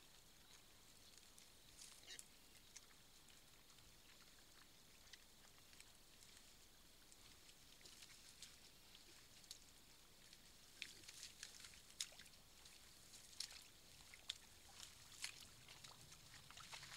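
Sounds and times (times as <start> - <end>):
faint steady hiss: 0.0 - 16.9.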